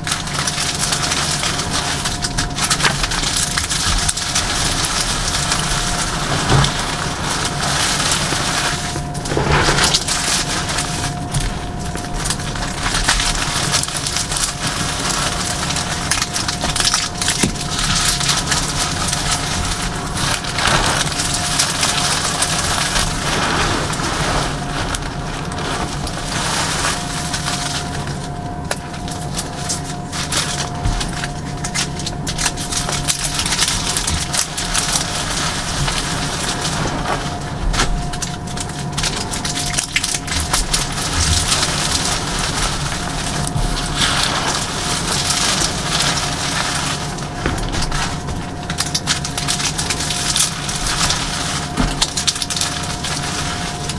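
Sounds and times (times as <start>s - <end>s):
chalk crunching and crackling: 0.0s - 53.9s.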